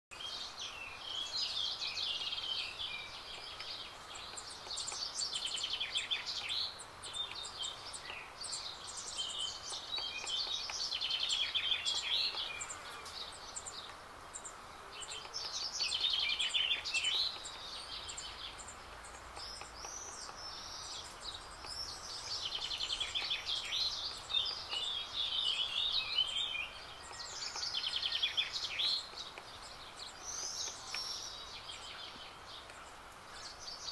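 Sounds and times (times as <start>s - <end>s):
faint outdoor background noise: 0.1s - 33.9s
songbird warbling: 0.2s - 33.9s.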